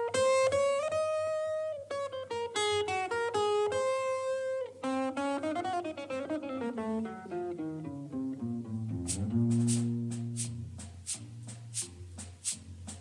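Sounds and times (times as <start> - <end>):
guitar melody: 0.0 - 13.0.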